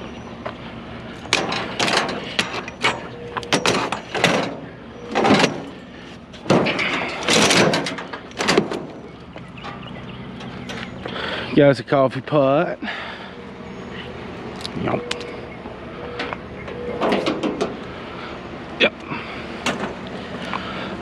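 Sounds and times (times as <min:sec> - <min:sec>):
items clattering on trailer: 0:00.0 - 0:13.3, 0:16.1 - 0:21.0.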